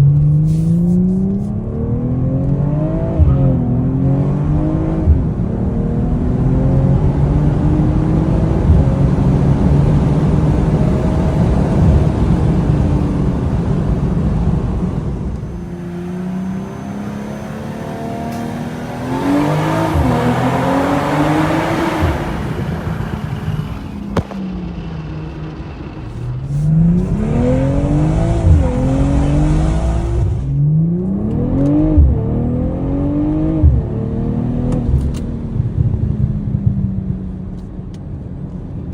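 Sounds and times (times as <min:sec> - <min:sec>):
car engine accelerating hard: 0:00.0 - 0:38.6.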